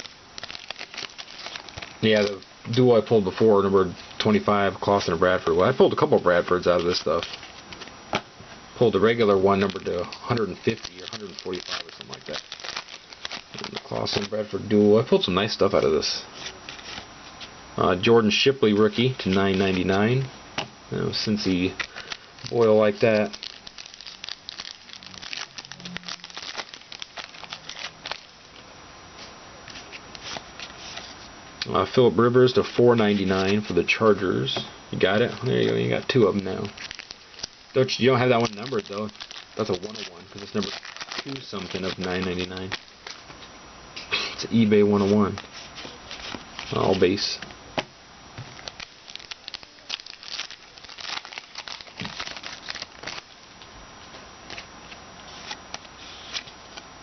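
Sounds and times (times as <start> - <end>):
card pack wrapper crinkling: 0.0 - 8.0, 8.9 - 17.0, 18.7 - 20.1, 21.0 - 28.6, 29.7 - 31.2, 35.0 - 43.5, 44.5 - 47.5, 48.4 - 53.7, 54.5 - 56.8.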